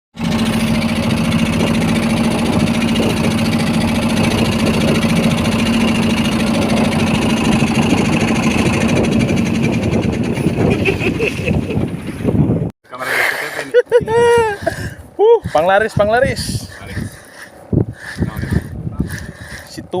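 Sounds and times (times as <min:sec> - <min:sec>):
boat engine running: 0:00.2 - 0:12.7, 0:13.6 - 0:20.0.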